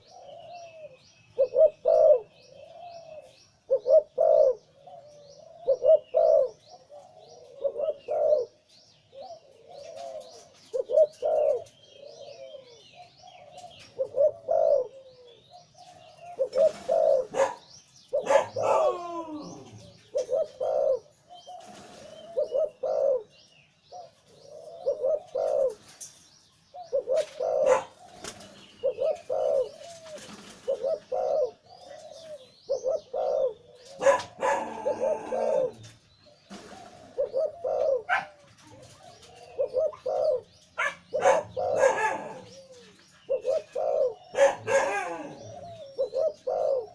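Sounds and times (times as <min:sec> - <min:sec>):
dove cooing: 0:00.0 - 0:46.9
small birds chirping: 0:00.0 - 0:46.9.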